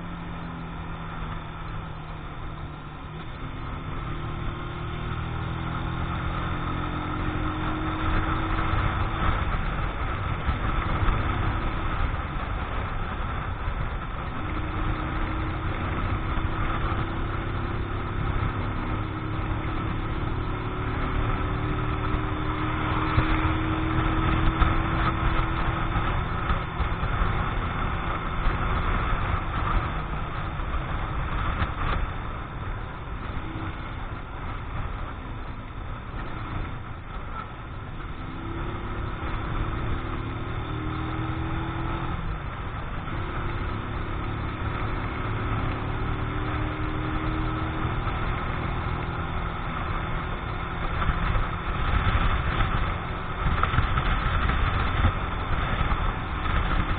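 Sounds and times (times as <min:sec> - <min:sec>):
motorcycle engine running: 0:00.0 - 0:56.9
wind rush on microphone: 0:00.0 - 0:56.9.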